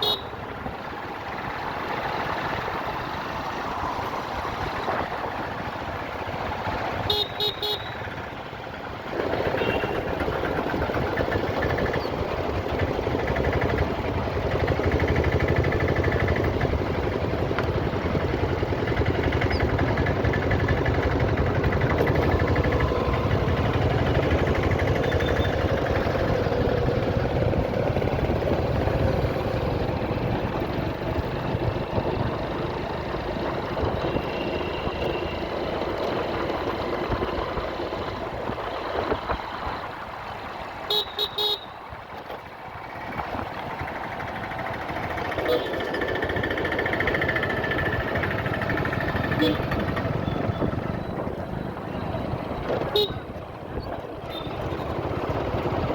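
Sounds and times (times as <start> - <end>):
road noise: 0.0 - 55.9
motorcycle engine running: 5.3 - 39.4, 42.4 - 55.9.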